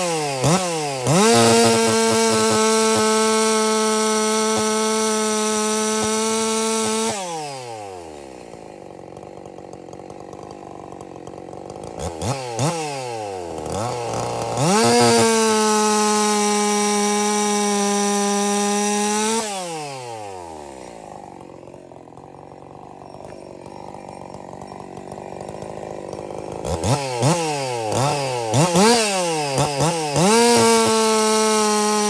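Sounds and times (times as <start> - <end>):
chainsaw revving and idling: 0.0 - 32.0.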